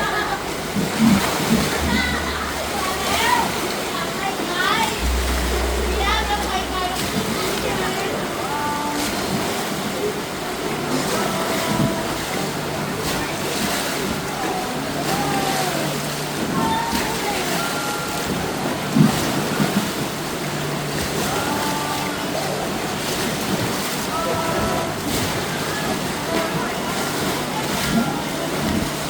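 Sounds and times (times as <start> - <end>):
wave splashes: 0.0 - 29.0.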